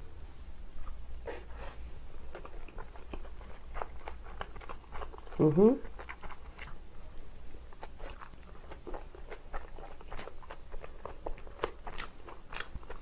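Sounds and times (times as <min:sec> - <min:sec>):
chewing with mouth clicks: 0:00.1 - 0:01.6, 0:02.2 - 0:13.0.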